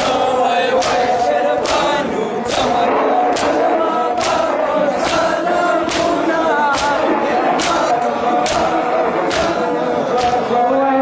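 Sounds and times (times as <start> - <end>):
chest-beating slaps in unison: 0.0 - 10.6
crowd chanting: 0.0 - 11.0.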